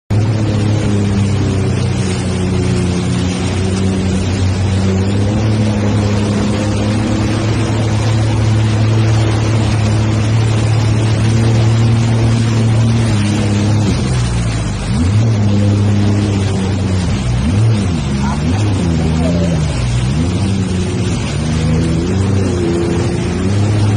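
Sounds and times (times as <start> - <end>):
jet ski engine running: 0.1 - 23.9
rushing noise: 0.1 - 23.9.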